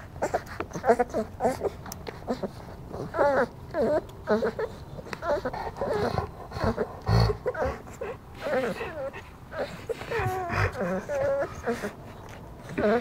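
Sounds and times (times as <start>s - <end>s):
puppies whimpering: 0.0s - 13.0s.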